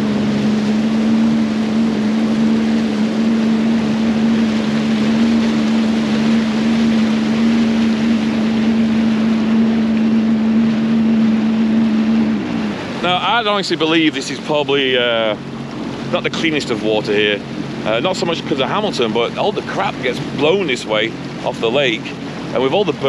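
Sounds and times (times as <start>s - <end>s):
water rushing along hull: 0.0s - 23.0s
watercraft engine droning: 0.0s - 23.0s.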